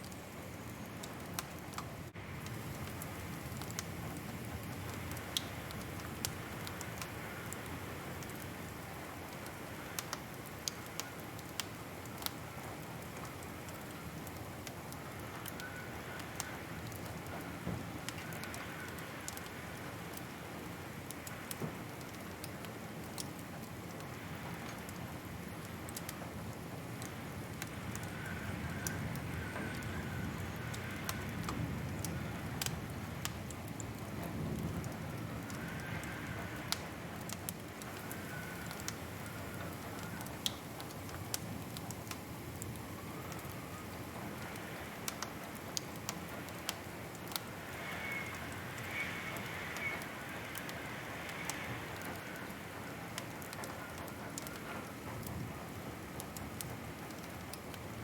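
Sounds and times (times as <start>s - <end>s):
low rush of flames: 0.0s - 58.0s
wood fire crackling: 0.0s - 58.0s.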